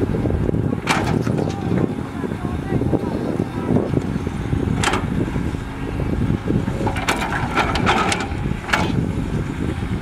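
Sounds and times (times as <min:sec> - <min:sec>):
dump truck engine running: 0:00.0 - 0:10.0
excavator diesel engine running: 0:00.0 - 0:10.0.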